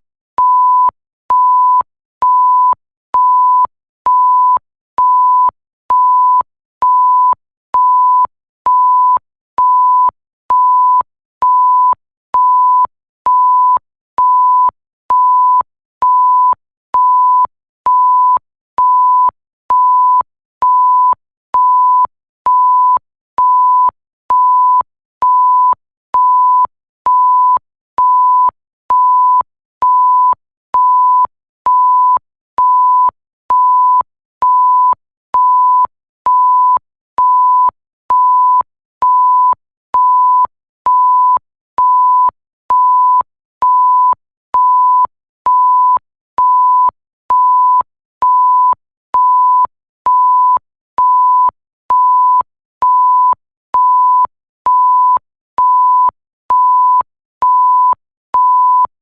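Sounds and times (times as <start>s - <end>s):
electronic censor beeps: 0.4s - 58.9s.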